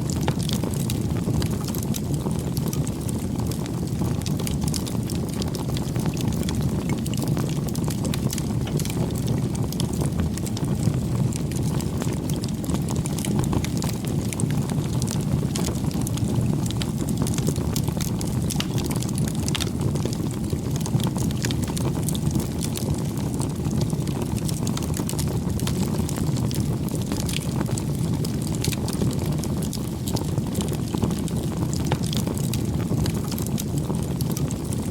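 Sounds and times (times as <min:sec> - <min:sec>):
burning wood crackling and popping: 0:00.0 - 0:34.9
flames rushing: 0:00.1 - 0:34.9.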